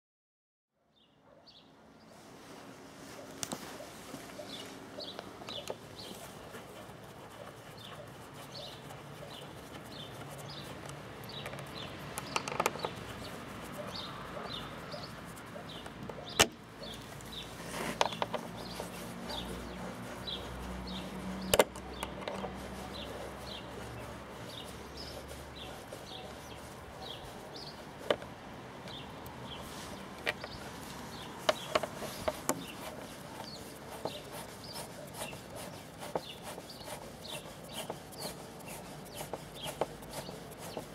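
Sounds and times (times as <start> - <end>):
bird chirping: 3.8 - 40.9.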